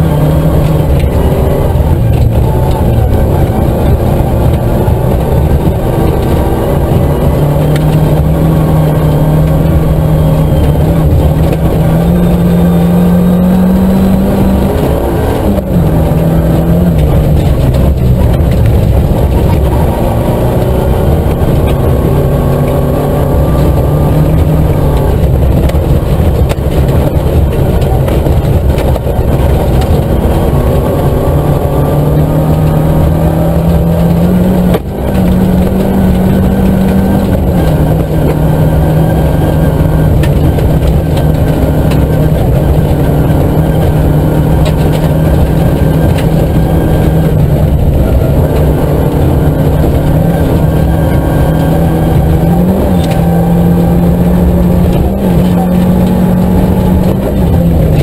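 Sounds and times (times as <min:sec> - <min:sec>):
car engine revving high: 0:00.0 - 0:58.0
tyres on gravel road: 0:00.0 - 0:58.0.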